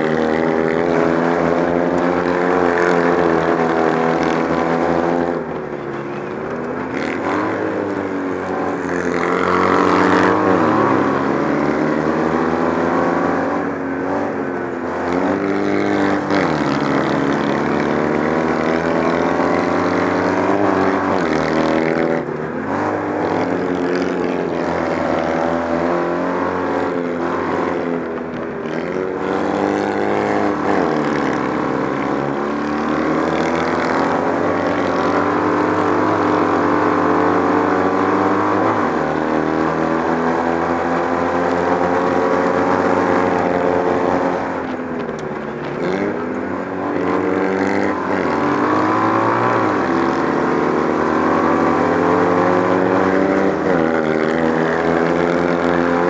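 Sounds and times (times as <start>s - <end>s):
kart engine racing: 0.0s - 56.0s.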